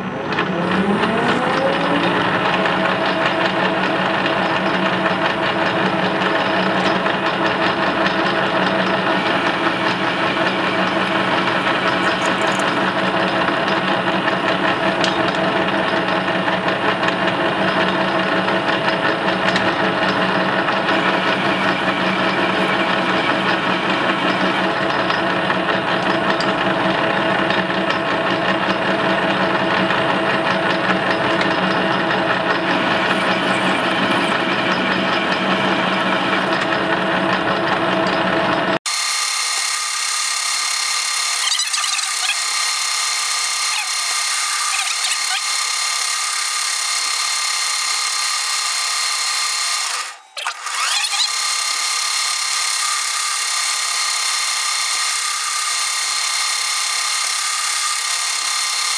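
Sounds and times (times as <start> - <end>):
lathe tool cutting thread: 0.0 - 58.9
metal lathe whining: 0.0 - 58.9.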